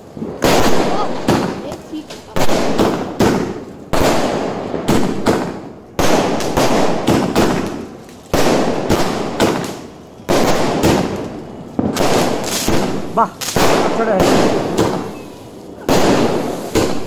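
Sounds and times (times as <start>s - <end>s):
fireworks crackle: 0.0s - 17.0s
fireworks sharp reports: 0.0s - 17.0s.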